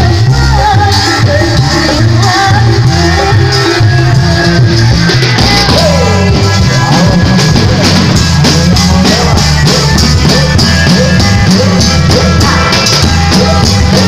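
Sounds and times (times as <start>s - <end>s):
amplified band music: 0.0s - 14.0s
drum kit with cymbals: 0.0s - 14.0s
heavy bass: 0.0s - 14.0s.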